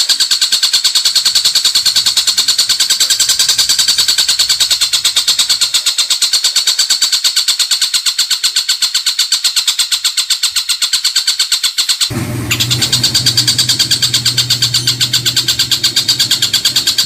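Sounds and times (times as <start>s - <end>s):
songbird fast trill: 0.0s - 17.0s.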